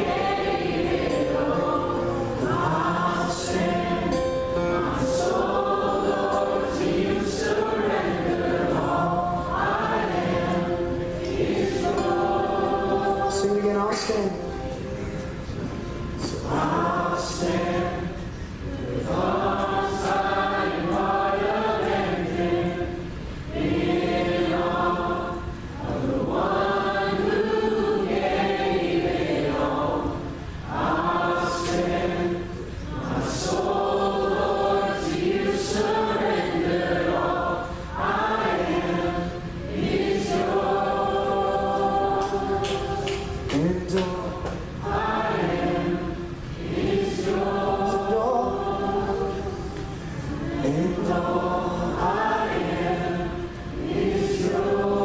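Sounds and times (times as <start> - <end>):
congregation singing: 0.0 - 55.0.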